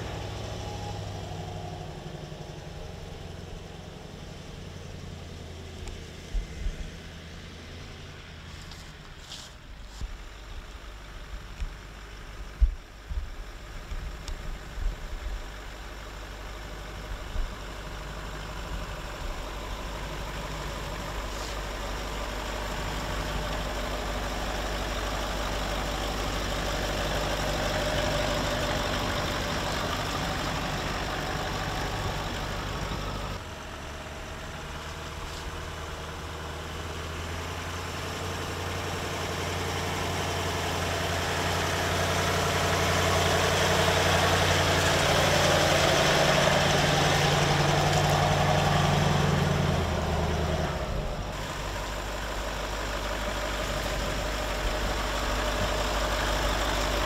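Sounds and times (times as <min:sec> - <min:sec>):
car engine running at low revs: 0:00.0 - 0:57.0.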